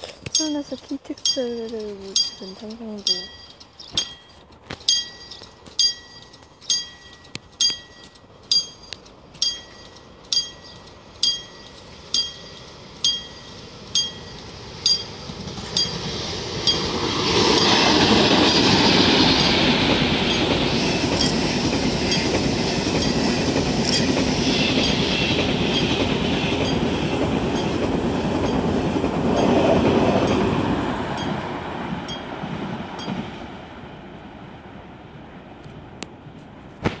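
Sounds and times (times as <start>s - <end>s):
high-speed train rushing past: 0.0s - 37.0s
level crossing warning bell: 0.3s - 22.4s, 23.0s - 24.2s, 24.8s - 25.1s, 25.7s - 32.4s, 33.0s - 33.3s.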